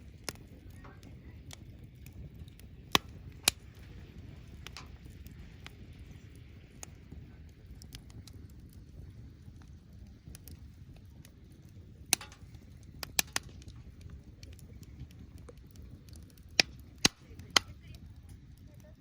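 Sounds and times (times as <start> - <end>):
fire popping: 0.0 - 19.0
firewood crackling: 0.0 - 19.0
low steady rumble: 0.0 - 19.0.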